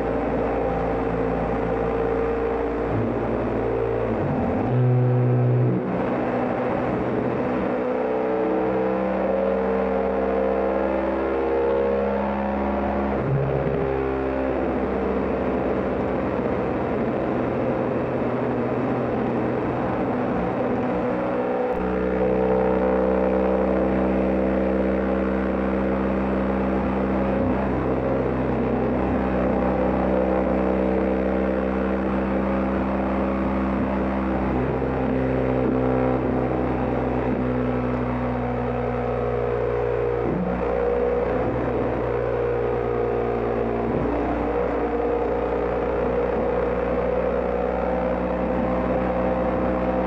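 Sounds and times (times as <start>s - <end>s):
motorcycle engine drone: 0.0s - 50.0s.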